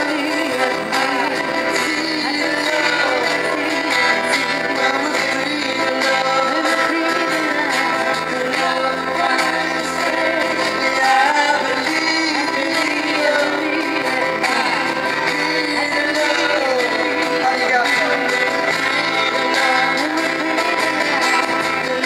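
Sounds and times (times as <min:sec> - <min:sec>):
acoustic guitars: 0:00.0 - 0:22.0
person singing: 0:00.0 - 0:22.0
reggae band playing: 0:00.0 - 0:22.0.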